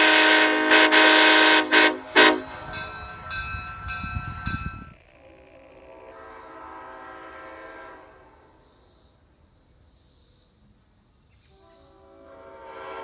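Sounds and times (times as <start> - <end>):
train horn chord: 0.0 - 9.0, 11.4 - 13.0
steady high hiss: 2.3 - 13.0.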